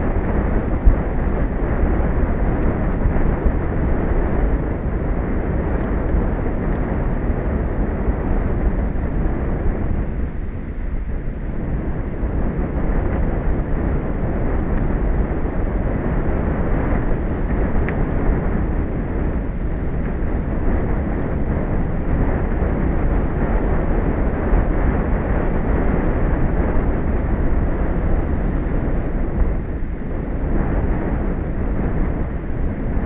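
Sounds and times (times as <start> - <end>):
wind and sea roar: 0.0 - 33.0
wind buffeting microphone: 0.0 - 33.0.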